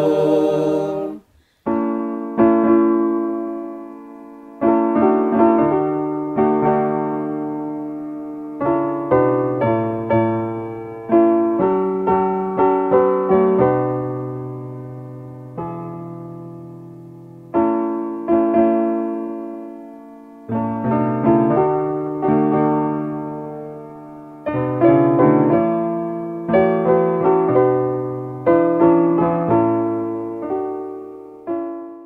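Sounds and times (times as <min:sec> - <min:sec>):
slow gentle piano music: 0:00.0 - 0:32.0.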